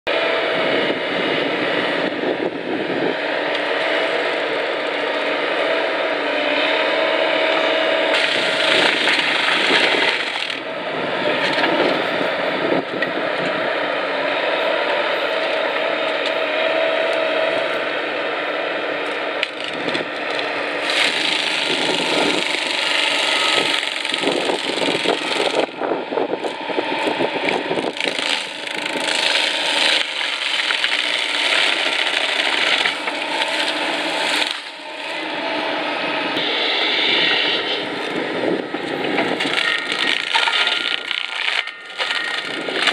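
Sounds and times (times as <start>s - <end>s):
forestry mulcher shredding wood: 3.4s - 12.1s, 14.4s - 42.9s.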